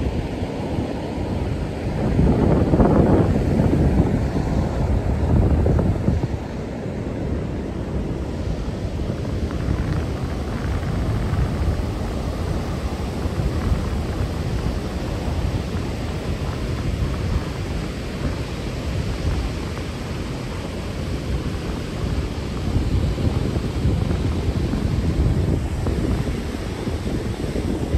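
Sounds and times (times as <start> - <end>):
ocean surf breaking: 0.0 - 27.9
wind buffeting microphone: 0.0 - 27.9.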